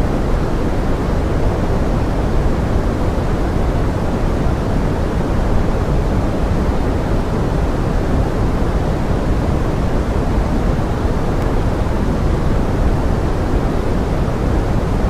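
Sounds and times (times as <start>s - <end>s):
pink noise hiss: 0.0s - 15.0s.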